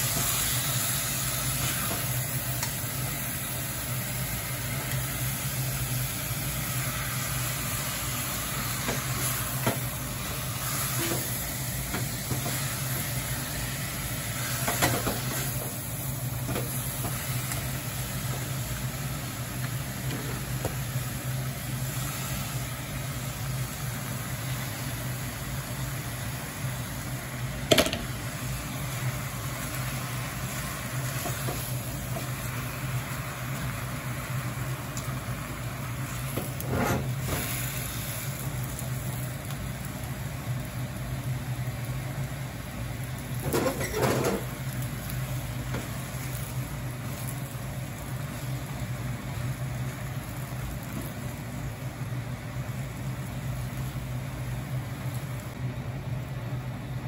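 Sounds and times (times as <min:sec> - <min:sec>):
food sizzling in a pot: 0:00.0 - 0:57.0.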